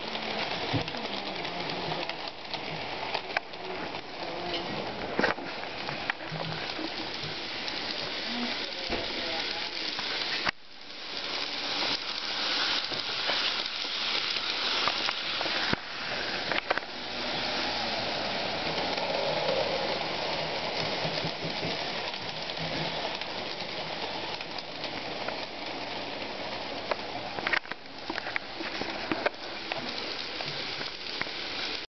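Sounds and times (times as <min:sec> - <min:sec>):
model train motor whirring: 0:00.0 - 0:04.5, 0:05.2 - 0:28.2.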